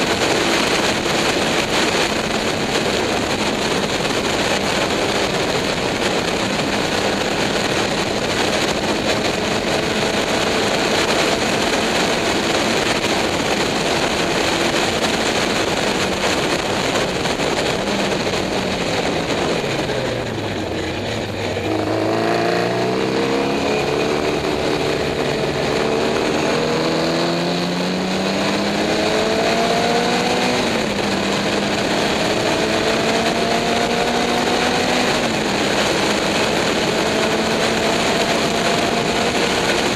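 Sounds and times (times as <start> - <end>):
race car engine revving: 0.0 - 39.9
wind rush: 0.0 - 39.9.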